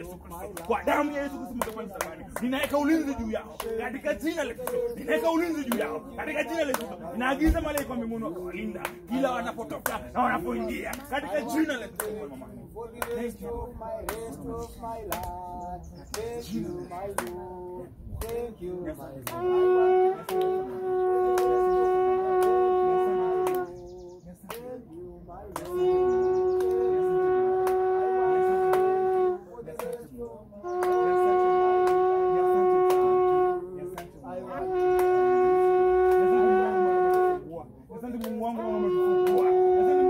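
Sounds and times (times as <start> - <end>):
shofar horn blasts: 0.0 - 15.3, 16.1 - 40.0.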